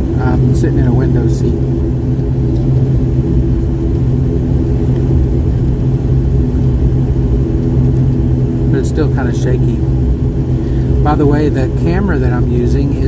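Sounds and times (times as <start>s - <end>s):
jet engine hum in cabin: 0.0s - 13.0s.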